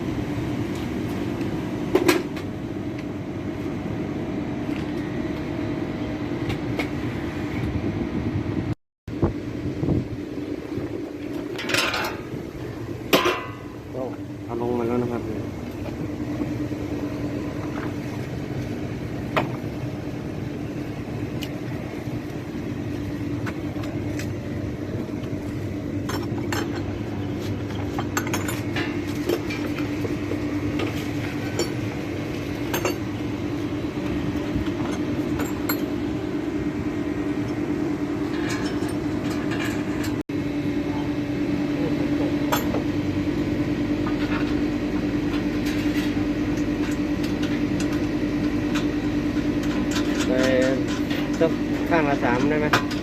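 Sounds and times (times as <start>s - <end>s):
machine hum: 0.0s - 53.0s.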